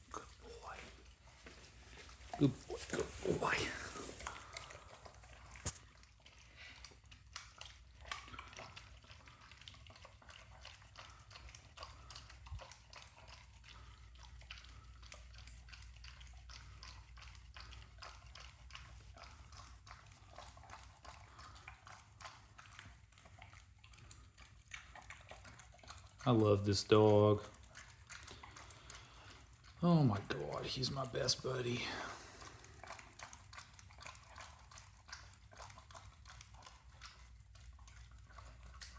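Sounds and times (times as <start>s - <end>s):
dog chewing and smacking: 0.0s - 38.9s.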